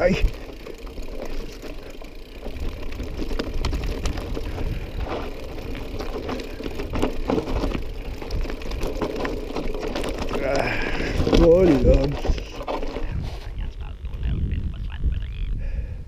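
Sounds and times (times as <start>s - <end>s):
bike clicks and rattles: 0.0s - 14.2s
bike low rumble: 0.0s - 16.0s.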